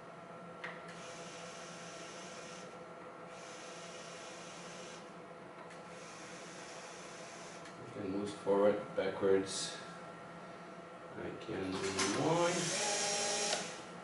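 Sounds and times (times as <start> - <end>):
tape drive hum and hiss: 0.0 - 14.0.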